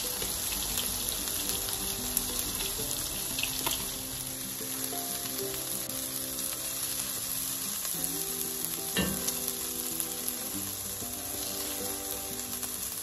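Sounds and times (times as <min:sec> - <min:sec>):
onions sizzling in a pot: 0:00.0 - 0:13.0.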